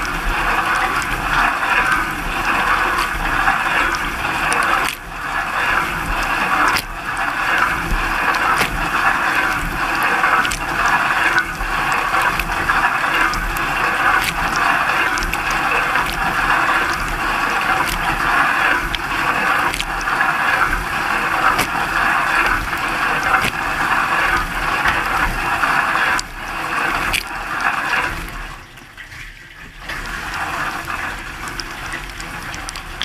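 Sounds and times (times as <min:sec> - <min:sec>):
dishwasher water spray: 0:00.0 - 0:28.3.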